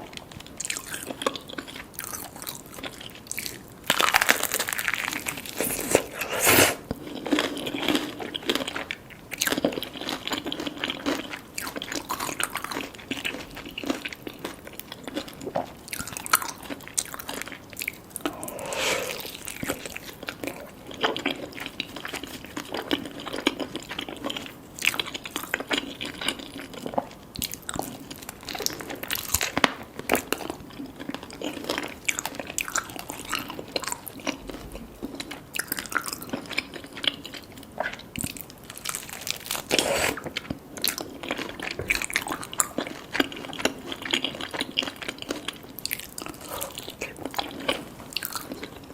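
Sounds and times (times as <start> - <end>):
person chewing crispy food: 0.0 - 48.9.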